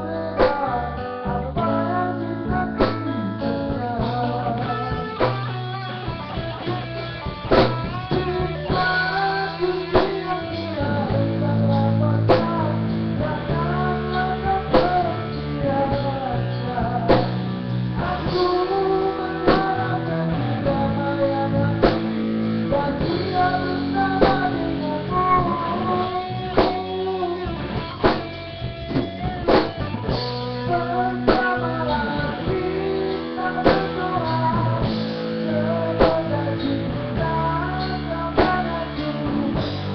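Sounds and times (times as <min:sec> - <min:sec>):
band music with guitar: 0:00.0 - 0:39.9.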